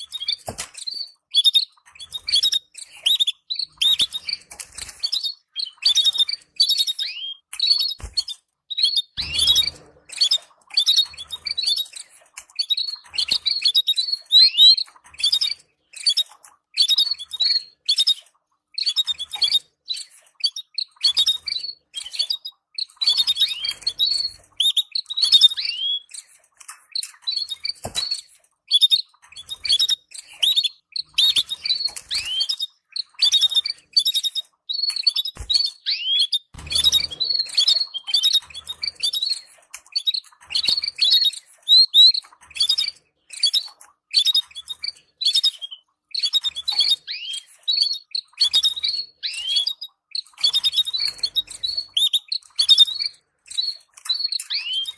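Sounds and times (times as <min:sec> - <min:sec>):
canaries chirping: 0:00.0 - 0:54.9.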